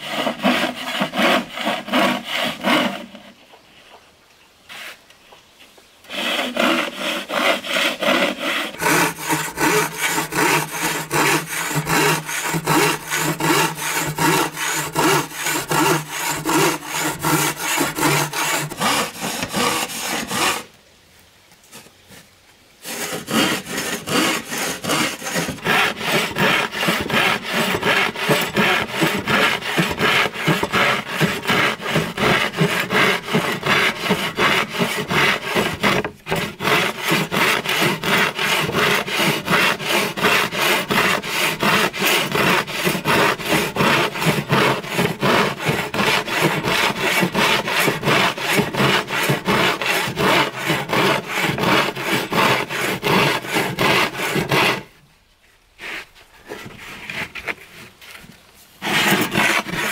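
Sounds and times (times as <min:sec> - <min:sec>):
hand saw cutting wood: 0:00.0 - 0:03.4, 0:06.1 - 0:20.7, 0:22.8 - 0:55.0, 0:55.8 - 0:59.9.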